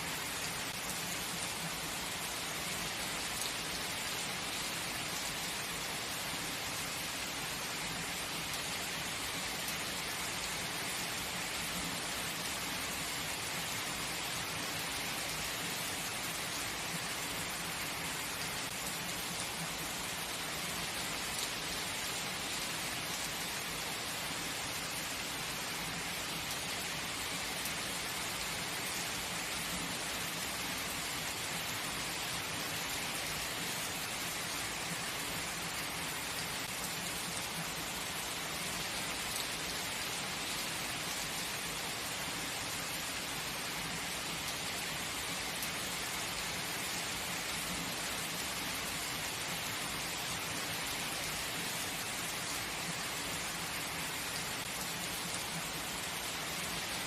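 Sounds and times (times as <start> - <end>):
heavy rain falling: 0.1 - 57.0.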